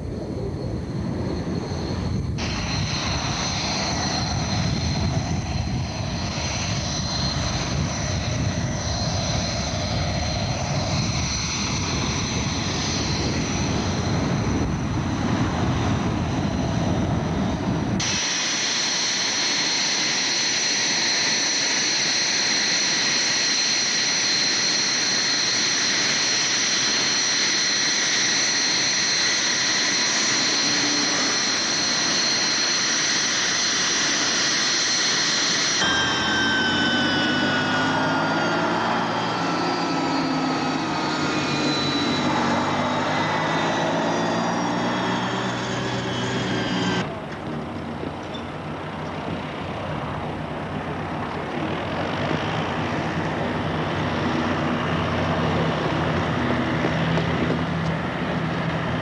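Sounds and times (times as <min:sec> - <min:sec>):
jet engines idling whine: 0:00.0 - 0:59.0
jet taxiing low rumble: 0:00.0 - 0:59.0.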